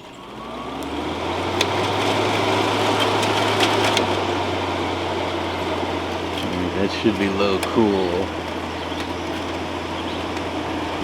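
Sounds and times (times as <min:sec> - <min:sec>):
air conditioner fan whirring: 0:00.0 - 0:11.0.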